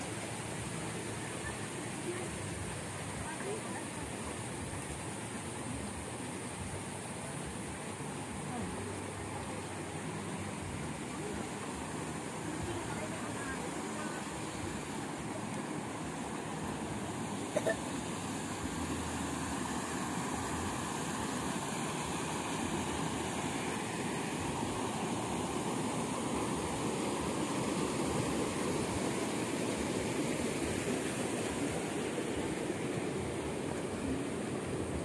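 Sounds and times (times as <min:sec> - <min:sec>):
stream water rushing over rocks: 0:00.0 - 0:35.0.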